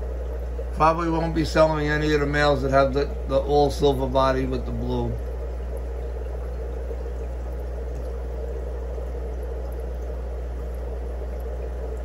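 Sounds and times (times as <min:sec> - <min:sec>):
aquarium filter hum: 0:00.0 - 0:12.0
water bubbling: 0:00.0 - 0:12.0.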